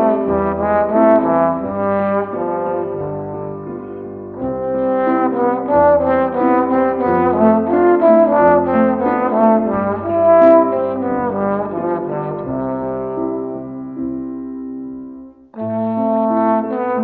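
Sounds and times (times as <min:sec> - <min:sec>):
trombone playing quick melody: 0:00.0 - 0:14.0, 0:15.6 - 0:17.0.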